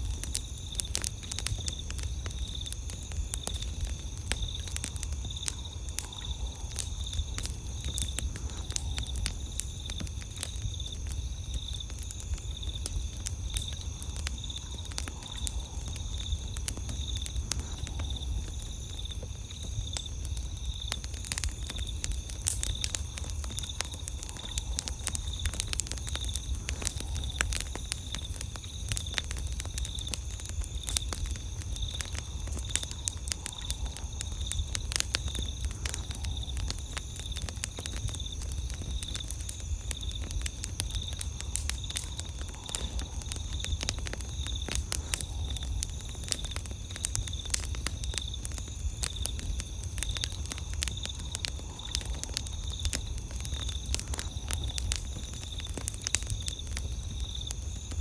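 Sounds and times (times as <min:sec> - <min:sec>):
campfire crackling and popping: 0:00.0 - 0:58.0
insects trilling: 0:00.0 - 0:58.0.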